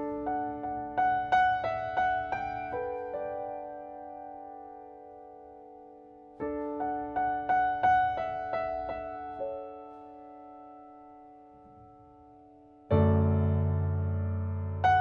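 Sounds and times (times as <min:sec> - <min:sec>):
piano chords with deep bass notes: 0:00.0 - 0:15.0.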